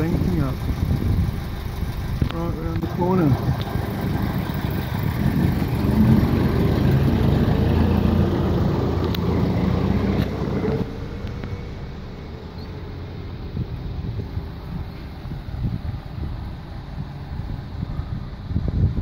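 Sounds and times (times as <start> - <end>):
cars passing in traffic: 0.0 - 19.0.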